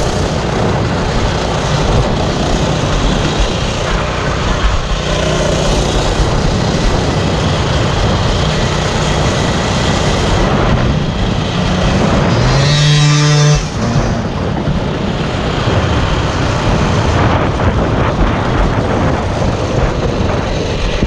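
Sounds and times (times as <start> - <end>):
motorbike engine revving: 0.0 - 21.0.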